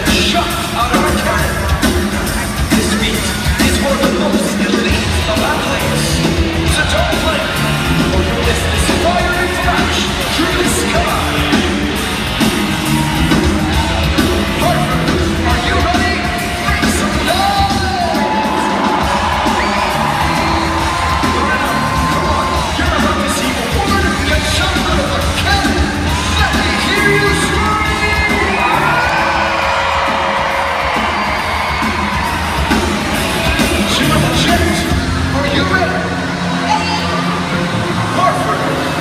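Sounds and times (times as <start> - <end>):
crowd yelling and whooping: 0.0 - 39.0
loud show music with singing: 0.0 - 39.0.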